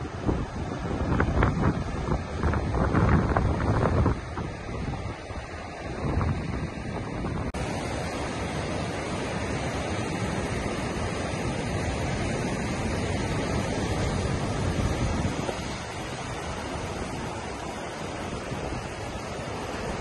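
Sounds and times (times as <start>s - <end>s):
ocean surf breaking on beach: 0.0s - 20.0s.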